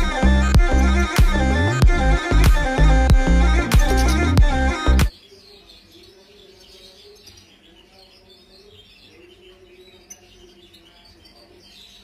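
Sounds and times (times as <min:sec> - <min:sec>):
goldfinch singing: 0:00.0 - 0:12.0.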